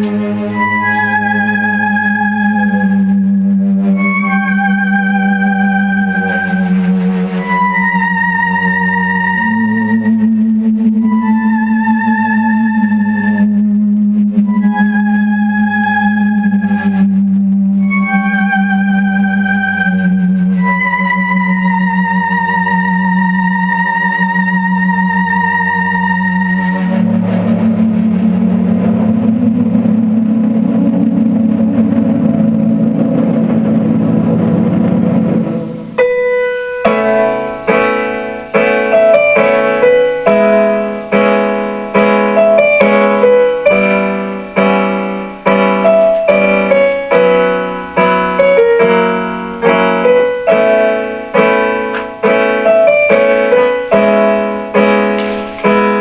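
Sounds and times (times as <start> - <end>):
piano playing notes and chords: 0.0 - 56.0
wavering synthesizer tone: 0.0 - 56.0.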